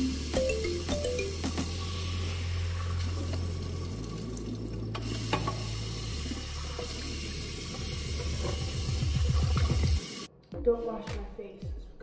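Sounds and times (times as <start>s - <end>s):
water running from sink tap: 0.0s - 10.3s.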